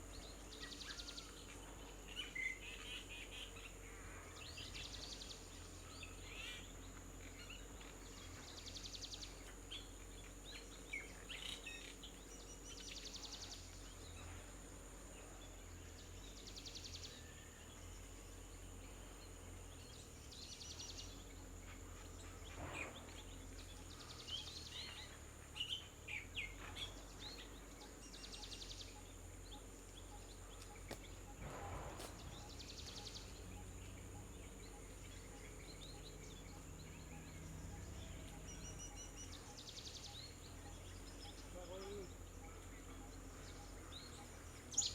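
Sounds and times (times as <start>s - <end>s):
small birds chirping faintly: 0.0s - 44.9s.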